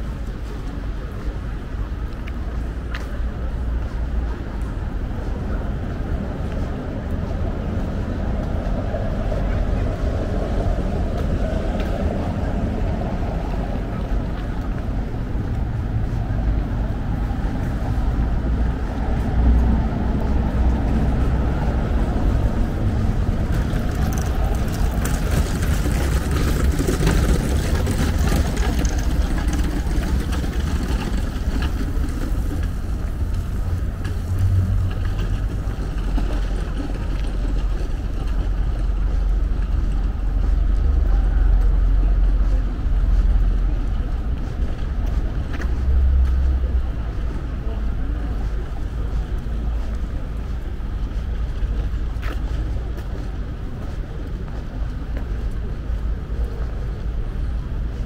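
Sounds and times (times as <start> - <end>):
general urban noise: 0.0 - 58.0
low traffic rumble: 0.0 - 58.0.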